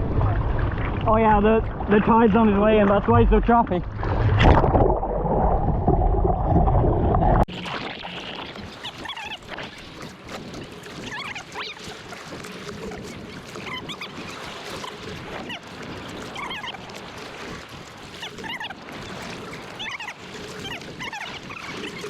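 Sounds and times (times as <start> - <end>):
ocean water splashing: 0.0 - 22.0.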